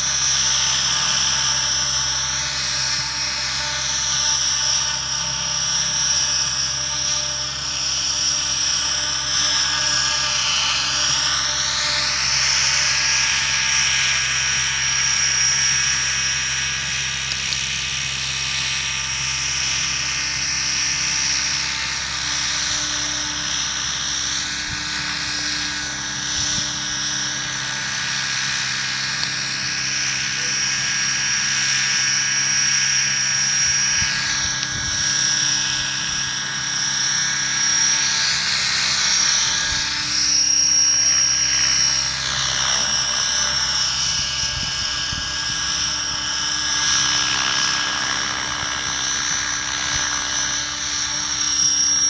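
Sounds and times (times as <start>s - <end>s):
model helicopter whine: 0.0s - 52.0s.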